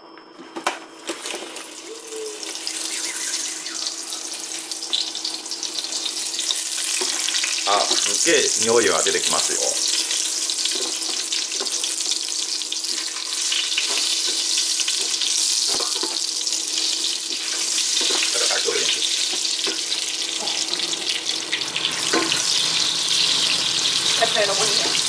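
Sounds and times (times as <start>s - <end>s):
chillies sizzling in hot oil: 1.0s - 25.0s.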